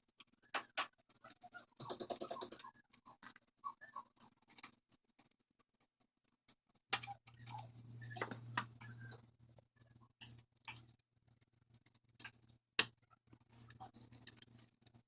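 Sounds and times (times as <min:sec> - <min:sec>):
light clicks and scratching: 0:00.0 - 0:15.0.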